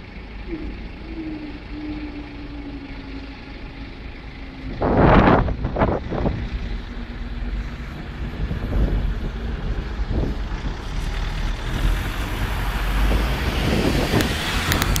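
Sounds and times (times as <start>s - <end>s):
car engine and tyres passing: 0.0s - 15.0s
steady low rumble: 0.0s - 15.0s.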